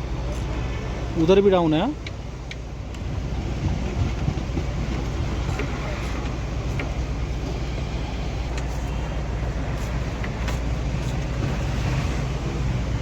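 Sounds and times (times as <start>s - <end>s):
car hum: 0.0s - 13.0s.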